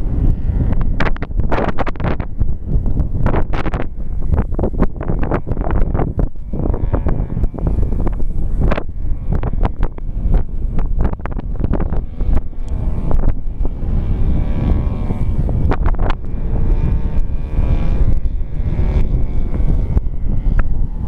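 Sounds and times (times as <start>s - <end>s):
propeller plane engine overhead: 0.0s - 21.0s
wind buffeting on microphone: 0.0s - 21.0s.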